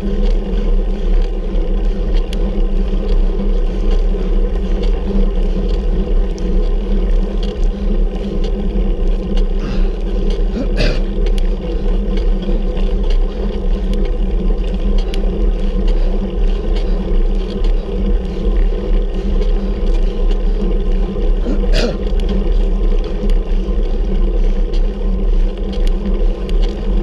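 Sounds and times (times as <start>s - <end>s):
faint ticks: 0.0s - 27.0s
wind rumble on microphone: 0.0s - 27.0s.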